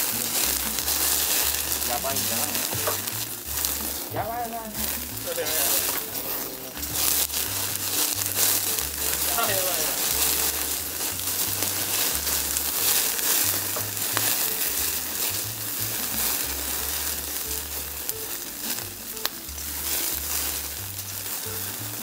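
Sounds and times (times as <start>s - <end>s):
background music bass line: 0.0s - 22.0s
meat sizzling on grill: 0.0s - 22.0s.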